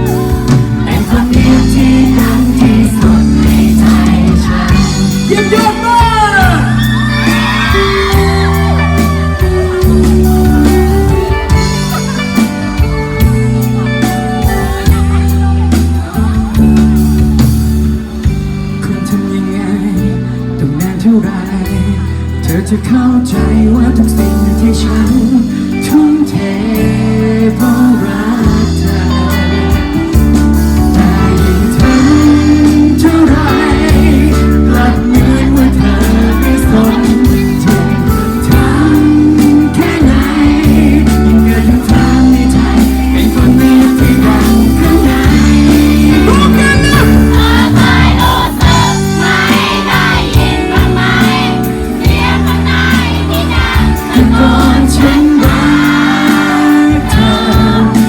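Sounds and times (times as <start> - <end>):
pop ballad with singing: 0.0 - 58.0
steady bass line: 0.0 - 58.0.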